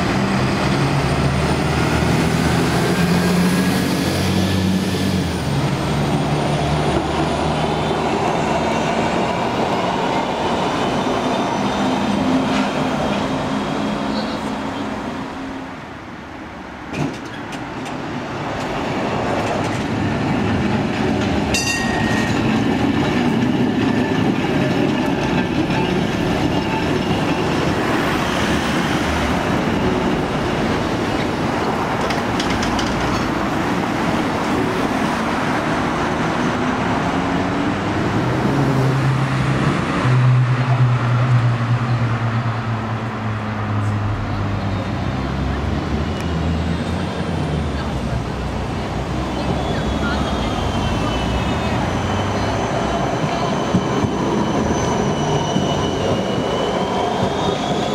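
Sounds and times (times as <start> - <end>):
tram wheels rumbling on rails: 0.0 - 57.9.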